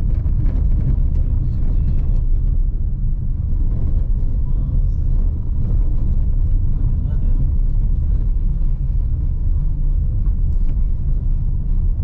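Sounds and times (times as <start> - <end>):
tyres and engine rumble: 0.0 - 12.0.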